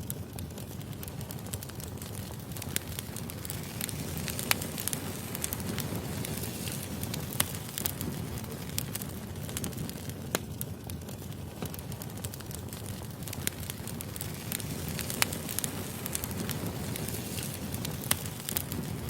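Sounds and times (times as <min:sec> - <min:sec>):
firewood crackling and popping: 0:00.0 - 0:19.0
low fire rumble: 0:00.0 - 0:19.0.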